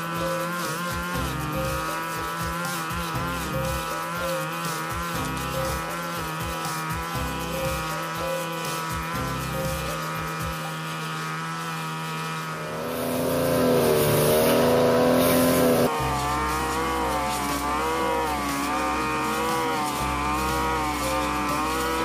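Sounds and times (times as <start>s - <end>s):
brush cutter engine at high revs: 0.0s - 22.0s
metal blade cutting grass: 0.0s - 22.0s.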